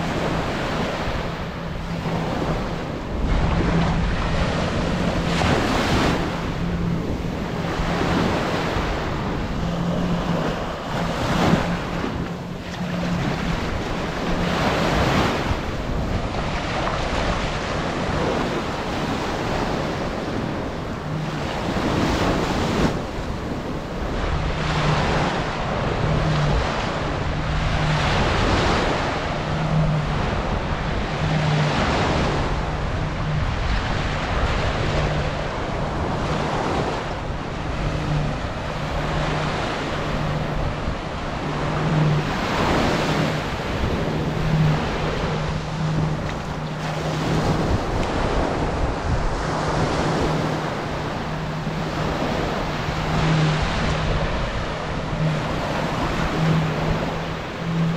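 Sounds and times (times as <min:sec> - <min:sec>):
low hum: 0:00.0 - 0:57.9
surf washing on sand: 0:00.0 - 0:57.9
wind buffeting microphone: 0:00.0 - 0:57.9.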